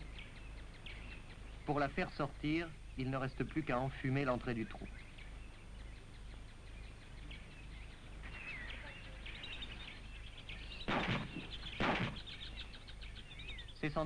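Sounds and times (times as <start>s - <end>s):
small birds chirping: 0.0s - 14.0s
steady background hiss: 0.0s - 14.0s.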